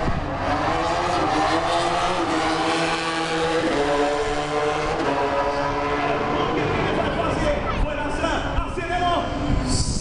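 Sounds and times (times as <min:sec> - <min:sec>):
motorcycle engines revving: 0:00.0 - 0:08.6.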